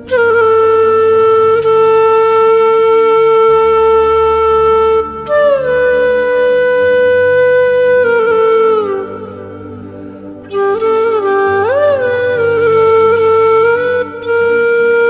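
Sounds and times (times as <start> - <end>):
low drone: 0.0 - 15.0.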